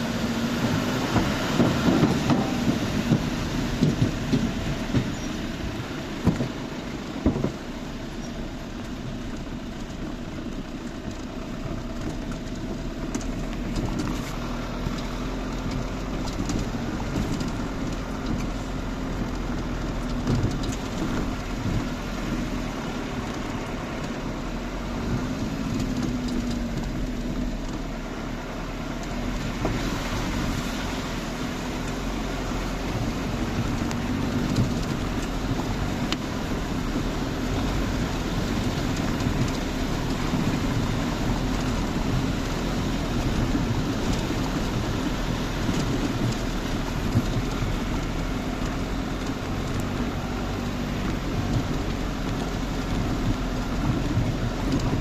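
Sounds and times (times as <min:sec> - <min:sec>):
road noise: 0:00.0 - 0:55.0
vehicle engine hum: 0:00.0 - 0:55.0.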